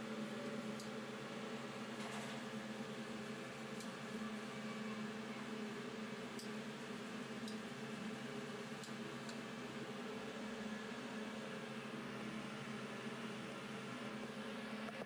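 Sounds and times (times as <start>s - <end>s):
engine room machinery hum: 0.0s - 15.0s.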